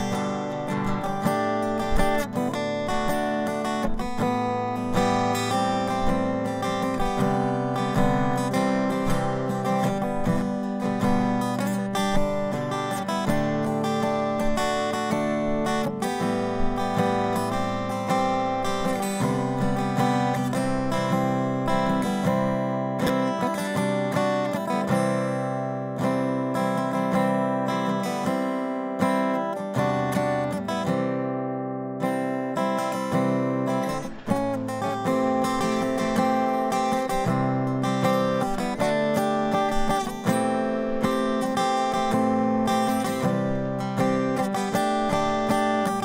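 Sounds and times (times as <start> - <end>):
acoustic guitar instrumental: 0.0 - 46.0.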